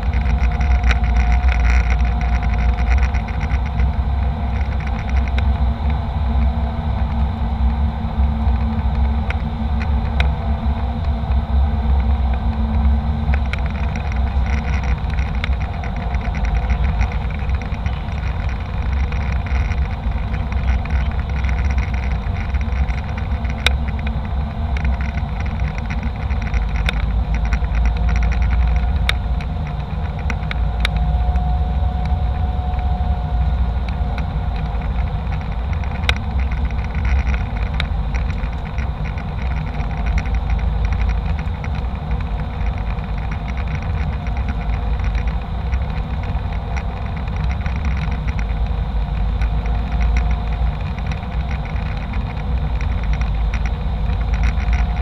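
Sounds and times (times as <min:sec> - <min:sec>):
jet airliner cabin rumble: 0:00.0 - 0:55.0
sharp clicks and rattles: 0:00.0 - 0:55.0.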